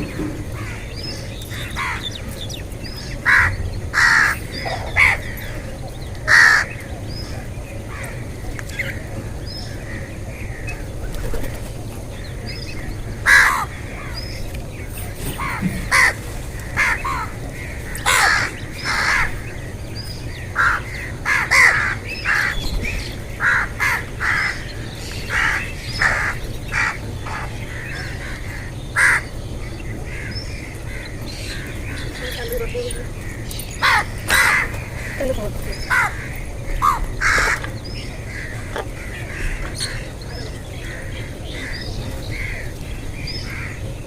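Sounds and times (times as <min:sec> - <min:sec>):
birds calling: 0:00.0 - 0:44.0.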